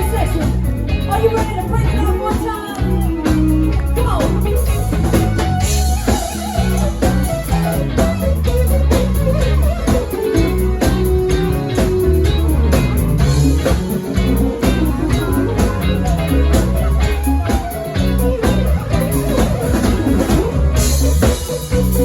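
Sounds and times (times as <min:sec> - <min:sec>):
bass notes: 0:00.0 - 0:22.0
drum beat: 0:00.0 - 0:22.0
guitar playing melodic lines: 0:00.0 - 0:22.0.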